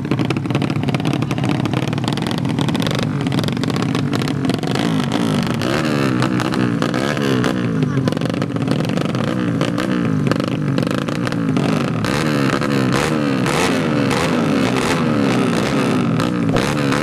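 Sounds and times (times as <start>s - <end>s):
motorcycle engines revving hard: 0.0s - 17.0s.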